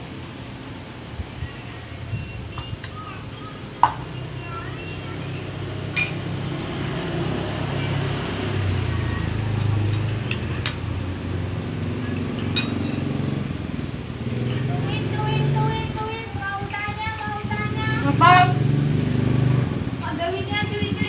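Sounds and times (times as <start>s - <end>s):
faint voices: 0.8s - 18.7s, 20.0s - 21.0s.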